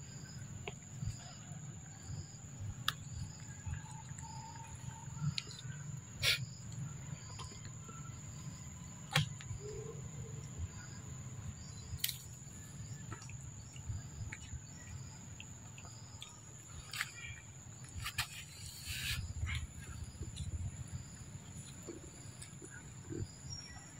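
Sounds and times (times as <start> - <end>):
insects singing: 0.0 - 23.9.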